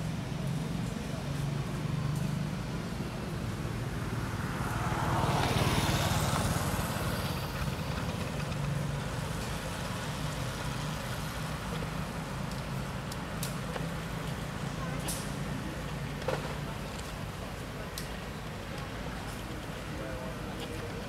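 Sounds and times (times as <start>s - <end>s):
vehicle passing on road: 0.8s - 21.0s.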